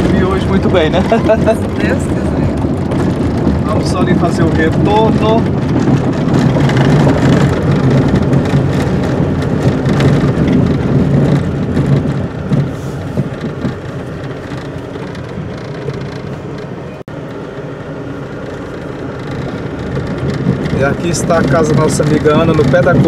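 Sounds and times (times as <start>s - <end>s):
car bumps and knocks: 0.0s - 17.0s, 18.4s - 23.0s
car engine and tyre rumble: 0.0s - 23.0s.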